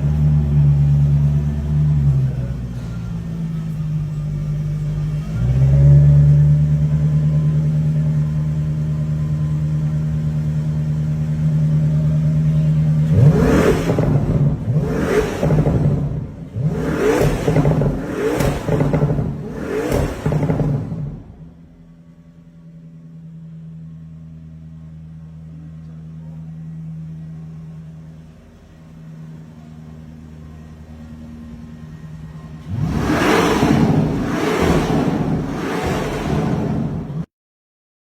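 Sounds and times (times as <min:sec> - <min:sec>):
car engine throttle blips: 0:00.0 - 0:37.3.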